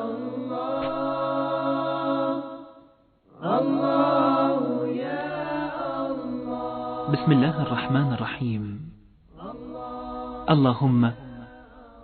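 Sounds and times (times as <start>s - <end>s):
wordless a cappella vocal chant: 0.0s - 12.0s.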